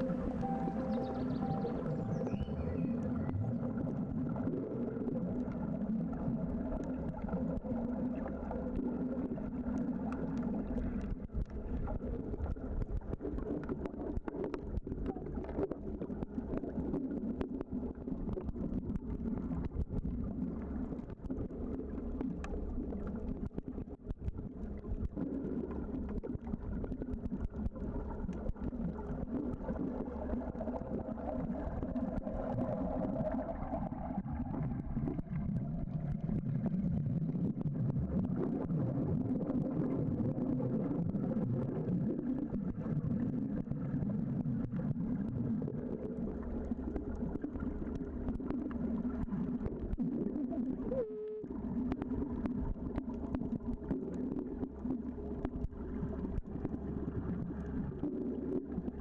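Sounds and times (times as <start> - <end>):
faint underwater clicks: 0.0 - 59.0
underwater motor drone: 0.0 - 59.0.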